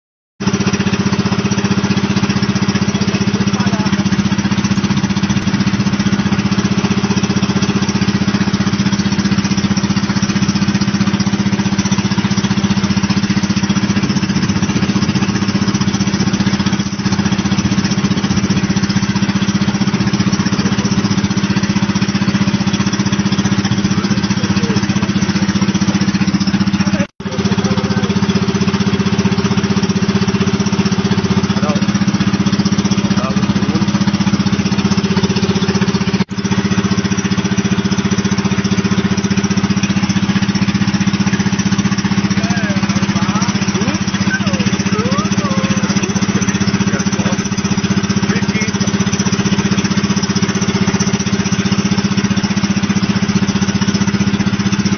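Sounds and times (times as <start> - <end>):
boat engine drone: 0.4 - 54.9.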